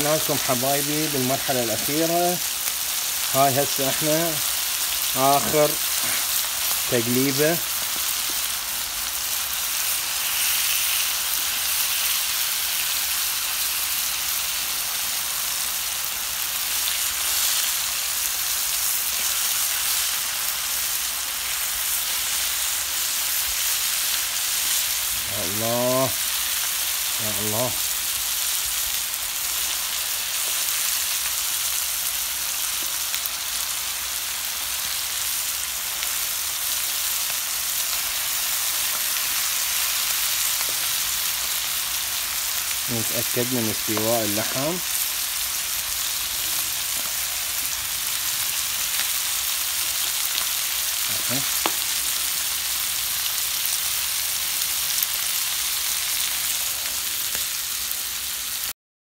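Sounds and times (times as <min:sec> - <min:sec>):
meat sizzling in a tray: 0:00.0 - 0:58.7.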